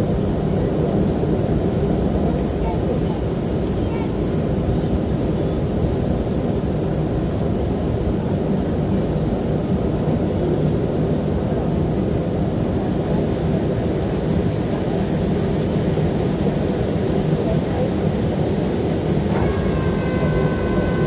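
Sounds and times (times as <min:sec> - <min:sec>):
jet engine rumble in cabin: 0:00.0 - 0:21.0.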